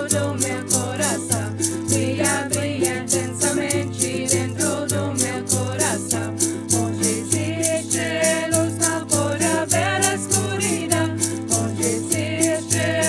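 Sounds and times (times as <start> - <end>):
hand rattles shaking: 0.0 - 13.0
strummed nylon-string guitar: 0.0 - 13.0
ukulele: 0.0 - 13.0
voices singing a chant: 0.0 - 13.0.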